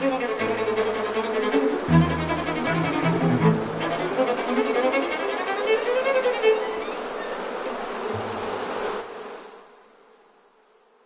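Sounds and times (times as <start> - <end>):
bees buzzing: 0.0 - 9.6.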